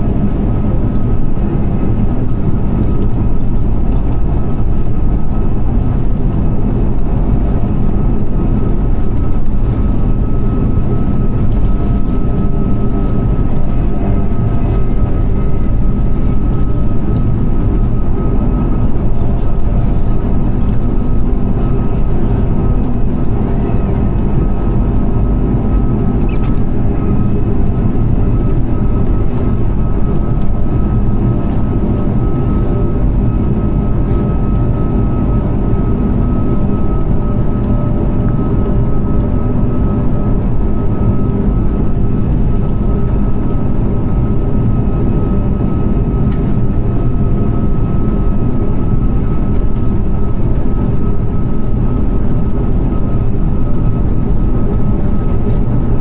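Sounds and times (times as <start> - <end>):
aircraft cabin low rumble: 0.0 - 56.0
thin steady whine: 0.0 - 56.0.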